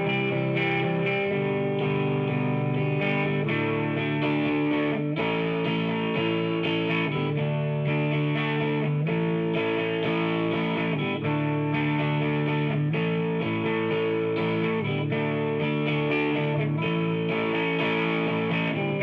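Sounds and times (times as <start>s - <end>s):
distorted electric guitar music: 0.0s - 19.0s.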